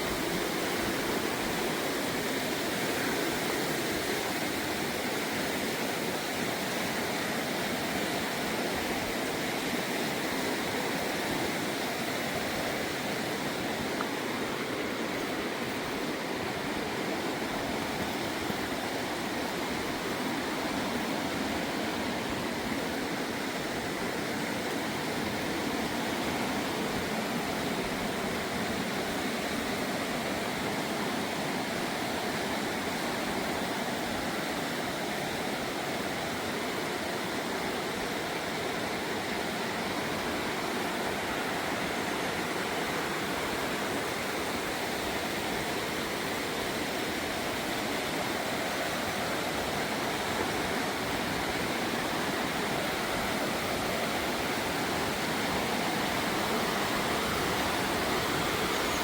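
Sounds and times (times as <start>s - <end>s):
fast-flowing river rushing: 0.0s - 59.0s.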